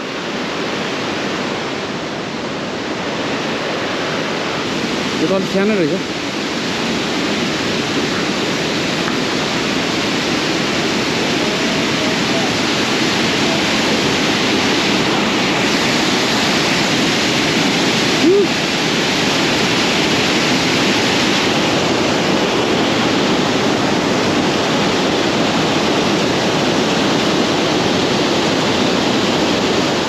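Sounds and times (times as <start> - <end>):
waterfall pouring and splashing: 0.0 - 30.0.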